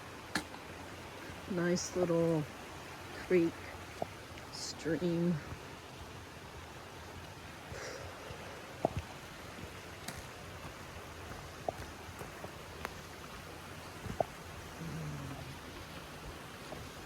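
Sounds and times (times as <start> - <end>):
mountain creek running: 0.0 - 17.0.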